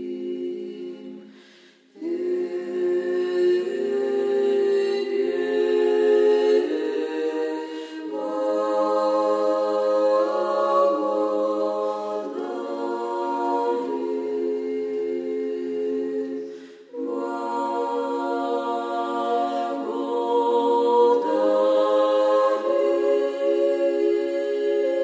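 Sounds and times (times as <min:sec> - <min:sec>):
unaccompanied choir chanting: 0:00.0 - 0:25.0.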